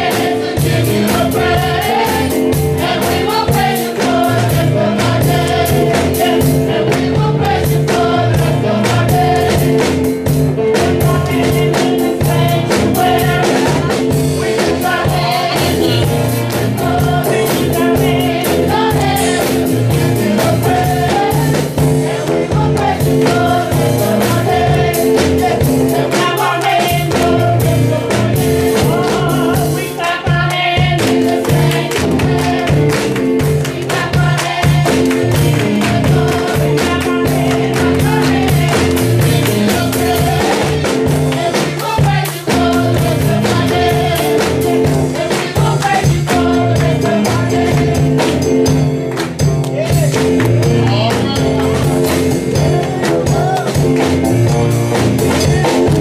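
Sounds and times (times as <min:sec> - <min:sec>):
band with steady beat: 0:00.0 - 0:56.0
voices singing gospel: 0:00.0 - 0:56.0.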